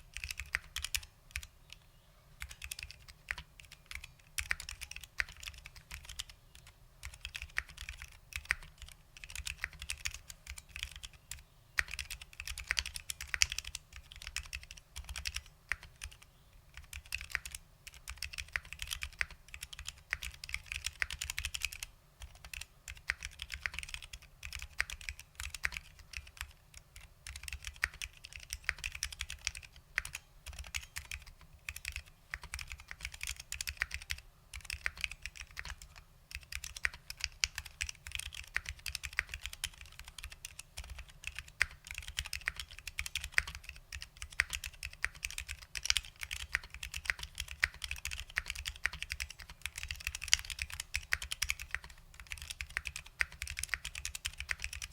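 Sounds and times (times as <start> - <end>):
typing on mechanical keyboard: 0.1 - 1.8, 2.4 - 54.9.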